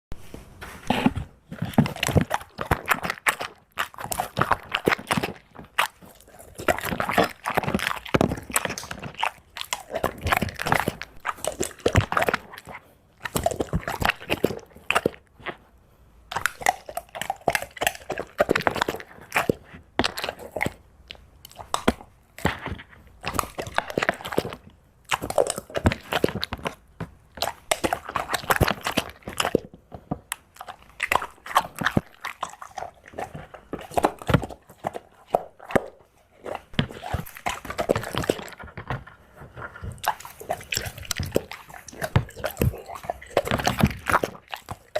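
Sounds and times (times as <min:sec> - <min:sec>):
dog crunching food: 0:00.9 - 0:15.7, 0:16.3 - 0:44.9.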